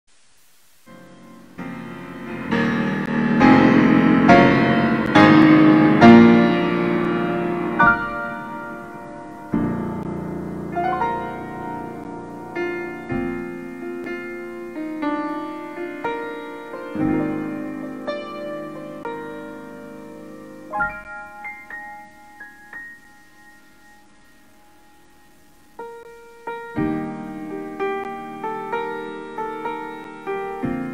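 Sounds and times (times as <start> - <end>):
slow piano piece: 0.4 - 30.9.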